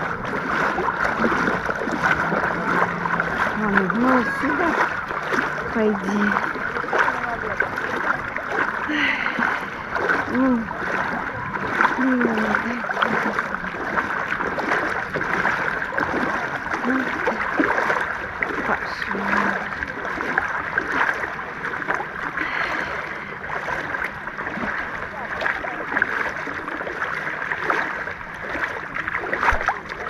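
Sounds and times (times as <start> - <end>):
faint voices: 0.0 - 30.0
sea water sloshing and splashing: 0.0 - 30.0.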